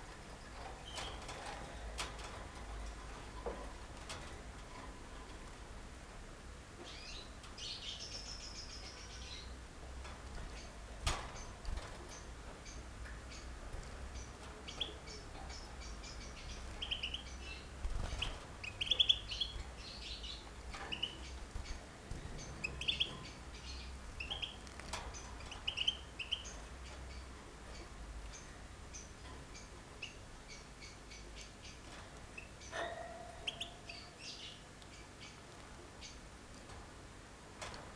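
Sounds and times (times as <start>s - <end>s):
small birds chirping: 0.0s - 5.3s, 6.7s - 36.9s
steady low hum: 0.0s - 37.9s.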